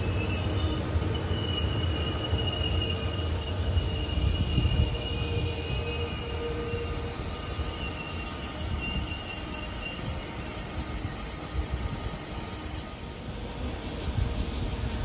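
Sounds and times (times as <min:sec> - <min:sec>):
high wheel squeal: 0:00.0 - 0:13.3
electric train rumbling: 0:00.0 - 0:15.0.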